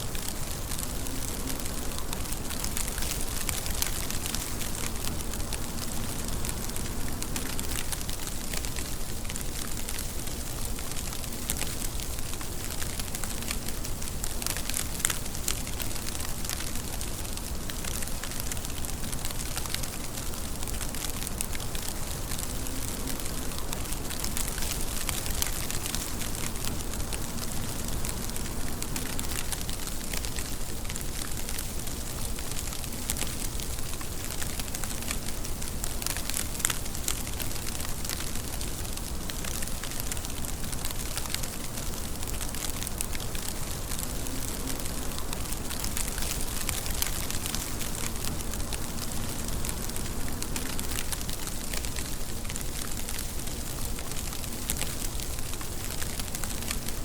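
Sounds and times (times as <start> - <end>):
steady rain on hard surfaces: 0.0 - 57.0.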